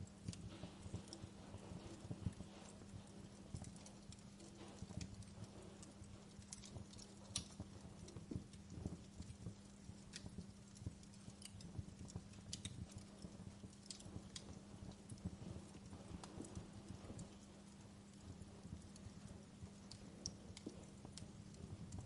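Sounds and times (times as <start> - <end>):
burning logs snapping and popping: 0.0 - 22.0
low hum and rumble: 0.0 - 22.0.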